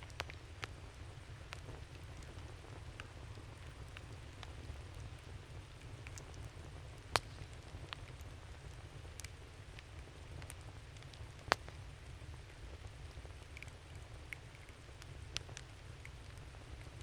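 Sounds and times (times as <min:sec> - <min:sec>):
campfire crackling and popping: 0:00.0 - 0:17.0
fire snapping: 0:00.0 - 0:17.0.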